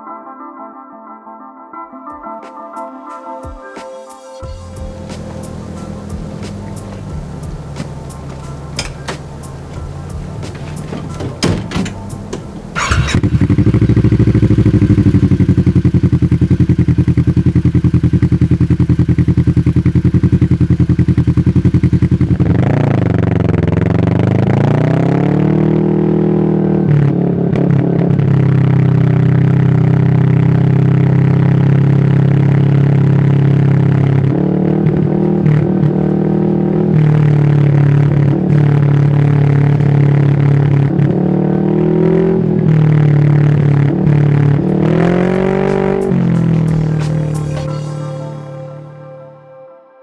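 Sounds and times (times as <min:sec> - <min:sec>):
engine idling and revving: 0:04.4 - 0:48.5.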